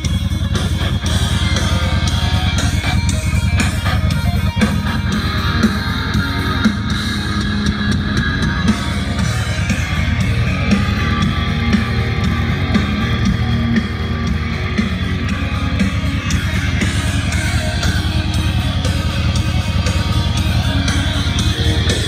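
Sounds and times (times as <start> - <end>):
rock music with heavy bass: 0.0 - 22.0.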